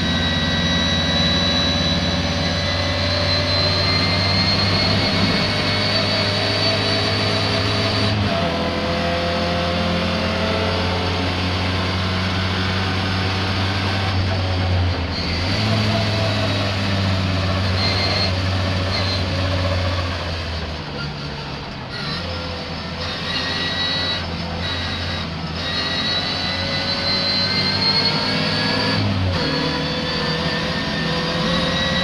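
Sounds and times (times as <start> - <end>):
racing car engine at speed: 0.0 - 32.0.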